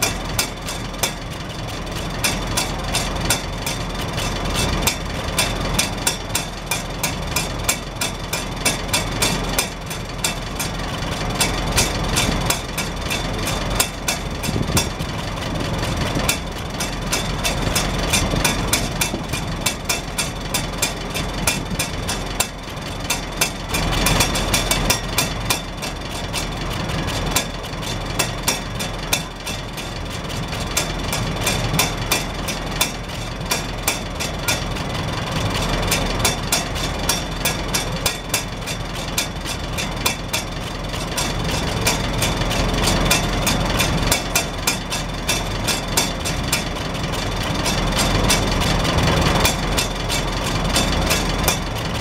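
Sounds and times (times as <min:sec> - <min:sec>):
tractor engine idling: 0:00.0 - 0:52.0.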